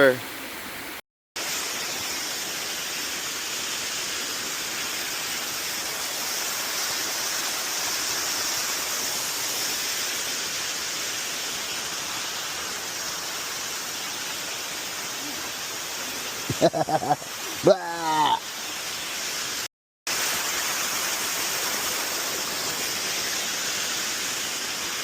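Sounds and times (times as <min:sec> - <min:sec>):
waterfall splashing: 0:01.4 - 0:25.0.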